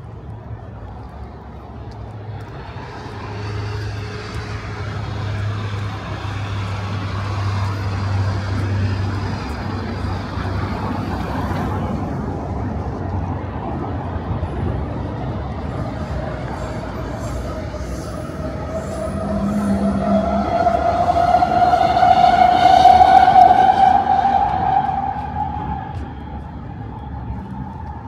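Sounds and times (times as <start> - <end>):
truck engine drone: 0.0 - 28.0.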